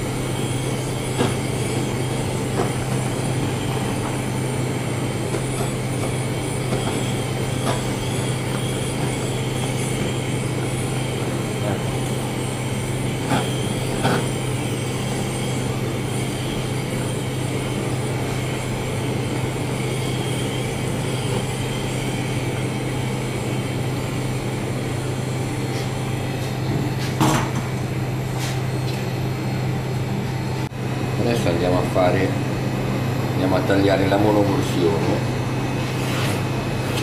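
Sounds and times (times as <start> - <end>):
blowtorch hissing: 0.0 - 29.9, 30.7 - 37.0
kitchen ventilation hum: 0.0 - 37.0.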